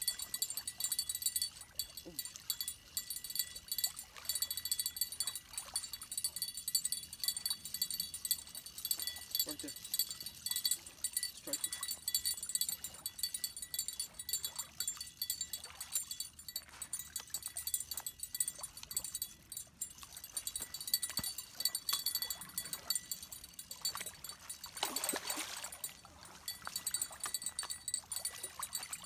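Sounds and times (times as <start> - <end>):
fishing reel drag clicking: 0.0 - 29.0.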